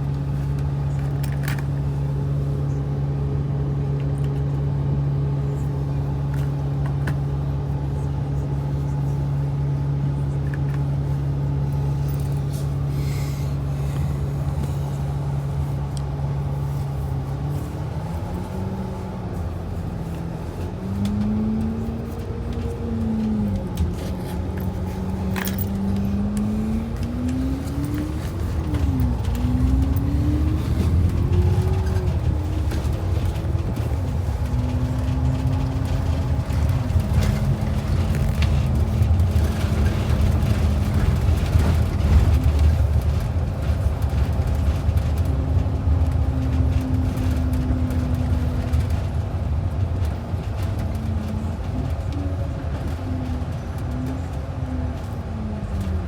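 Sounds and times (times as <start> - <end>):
bus engine rumbling and whining: 0.0 - 56.0.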